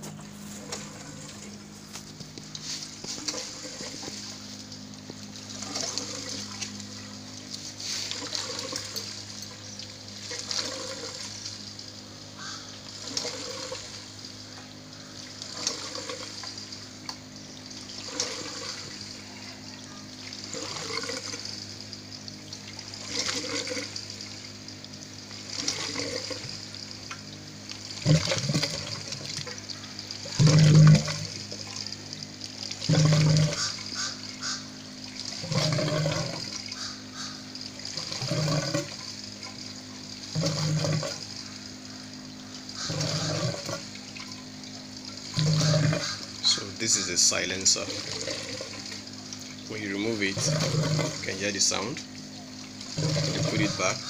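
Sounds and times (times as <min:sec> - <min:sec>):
airlift pump gurgling: 0:00.0 - 0:54.0
steady low hum: 0:00.0 - 0:54.0.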